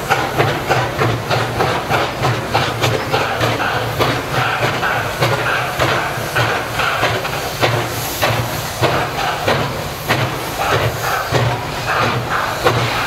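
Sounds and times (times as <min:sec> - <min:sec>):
steady hiss of steam: 0:00.0 - 0:13.0
steam locomotive exhaust chuffing: 0:00.0 - 0:13.0.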